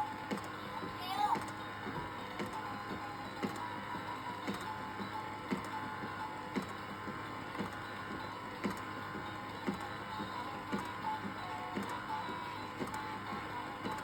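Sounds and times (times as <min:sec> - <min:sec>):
faint electronic toy tune: 0:00.0 - 0:14.0.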